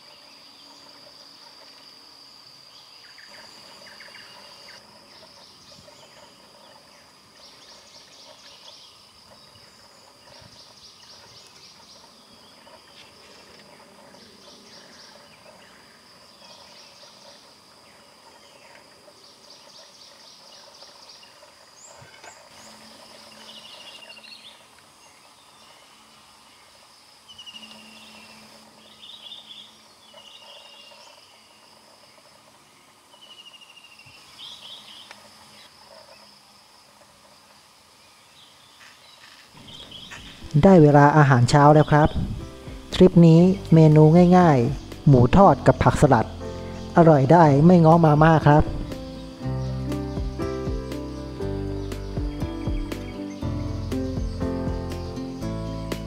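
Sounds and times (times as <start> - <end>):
insects trilling: 0.0 - 56.0
birds chirping: 2.7 - 36.4, 37.9 - 56.0.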